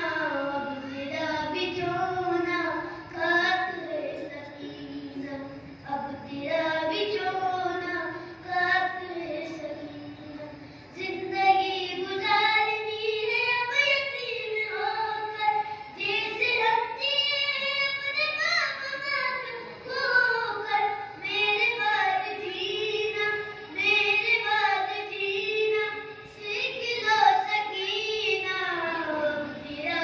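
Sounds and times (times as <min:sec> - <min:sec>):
boy singing unaccompanied lament: 0:00.0 - 0:30.0.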